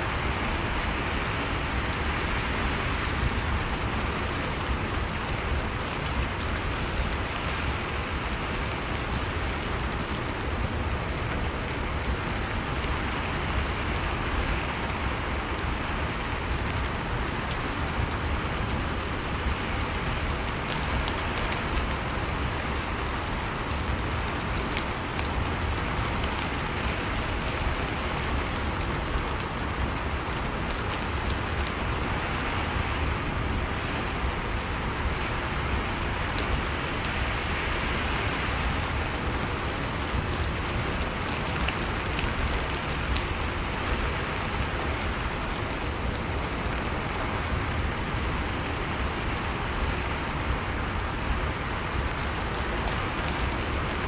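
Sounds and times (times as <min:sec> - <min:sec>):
dense rain pattering: 0:00.0 - 0:54.0.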